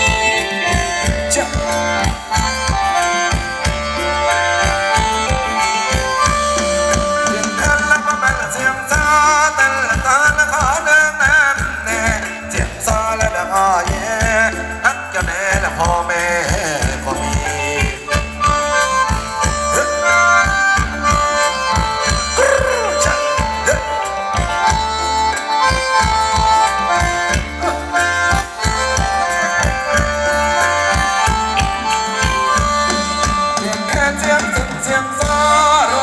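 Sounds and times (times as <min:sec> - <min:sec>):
reedy wind instrument melody: 0:00.0 - 0:15.0, 0:16.5 - 0:36.0
steady drum beat: 0:00.0 - 0:36.0.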